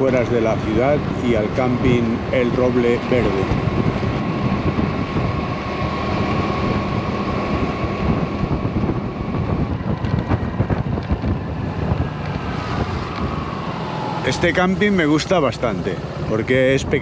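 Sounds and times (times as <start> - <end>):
scooter engine whine: 0.0 - 17.0
wind rushing over microphone: 0.0 - 17.0.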